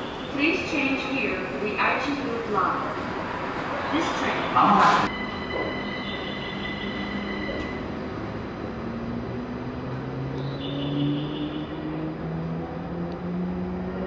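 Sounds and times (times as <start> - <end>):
low train rumble: 0.0 - 14.0.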